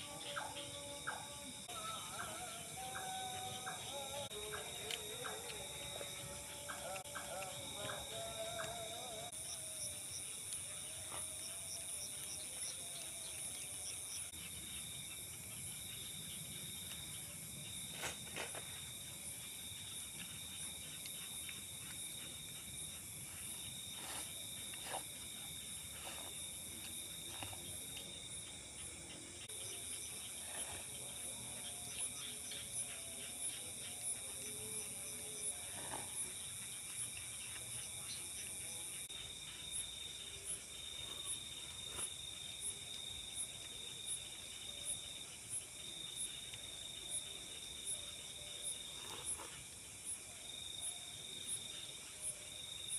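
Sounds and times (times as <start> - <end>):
crickets chirring: 0.0 - 52.9.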